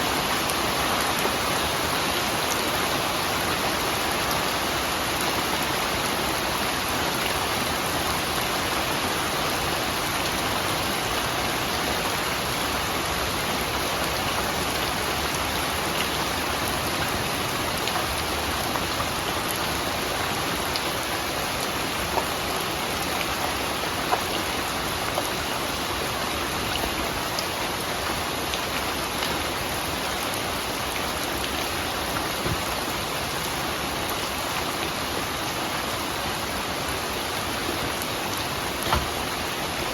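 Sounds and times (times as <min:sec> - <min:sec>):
rain drops ticking: 0:00.0 - 0:39.9
steady rainfall: 0:00.0 - 0:39.9.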